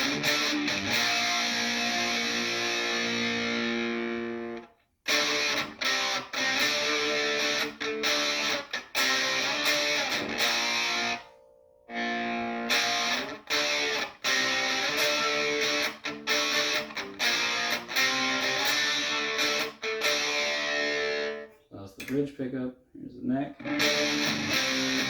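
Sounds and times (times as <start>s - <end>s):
electric guitar chords: 0.0s - 21.5s, 23.6s - 25.0s.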